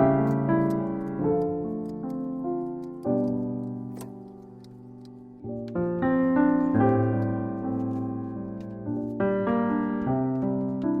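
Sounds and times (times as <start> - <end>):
sustained piano chords: 0.0 - 11.0.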